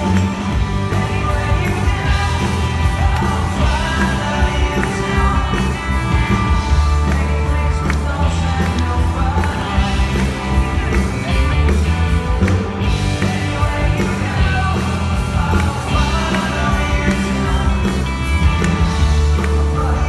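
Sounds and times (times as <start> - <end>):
lead singer singing: 0.0 - 11.8, 12.4 - 20.0
rock band playing: 0.0 - 20.0.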